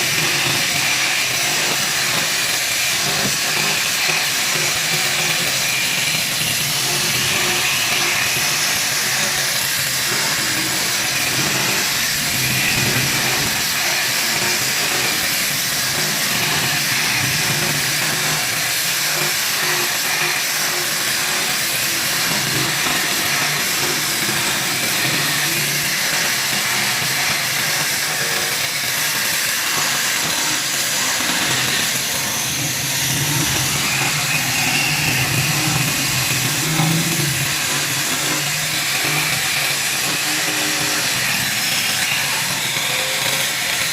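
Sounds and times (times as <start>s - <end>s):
power tool whirring: 0.0s - 43.9s.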